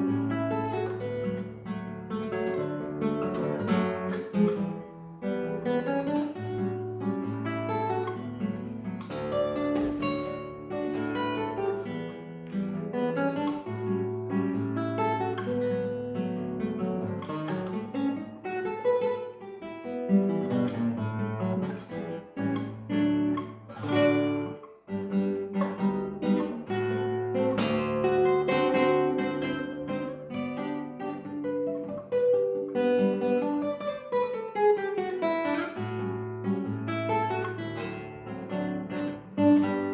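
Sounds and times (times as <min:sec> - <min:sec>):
acoustic guitar waltz: 0:00.0 - 0:39.9.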